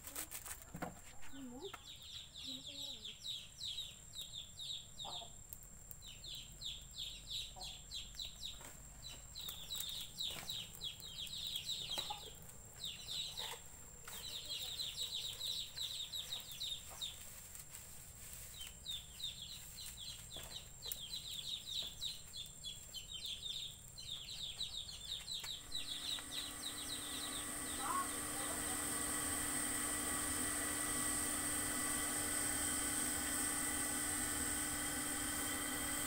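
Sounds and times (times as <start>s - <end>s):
birds chirping: 1.2s - 17.3s, 18.5s - 36.0s.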